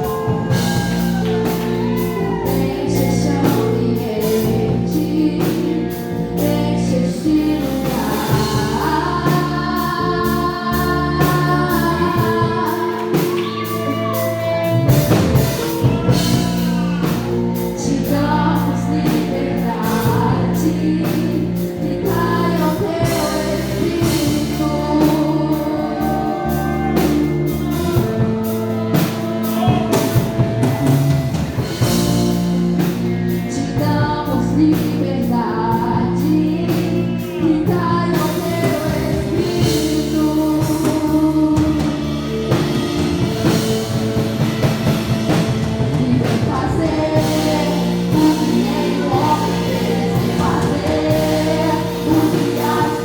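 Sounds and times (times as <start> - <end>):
drum kit beat: 0.0 - 53.0
gospel singing: 0.0 - 53.0
sustained keyboard chords: 0.0 - 53.0.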